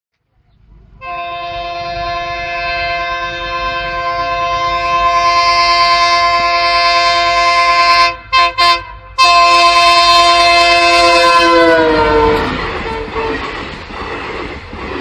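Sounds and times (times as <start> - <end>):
train horn: 1.0 - 13.6.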